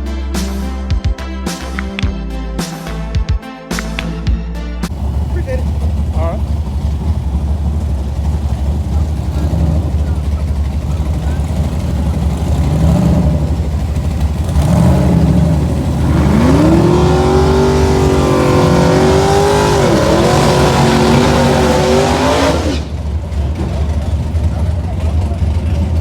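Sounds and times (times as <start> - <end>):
drag car engine revving: 4.9 - 26.0.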